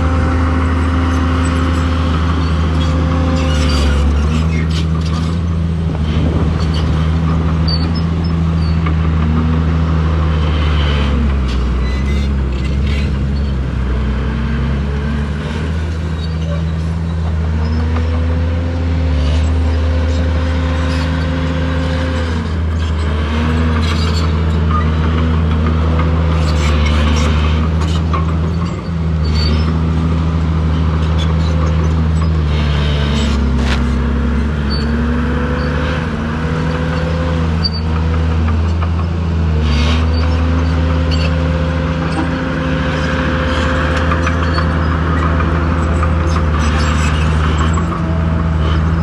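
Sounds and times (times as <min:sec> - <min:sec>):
heavy diesel engine revving: 0:00.0 - 0:49.0.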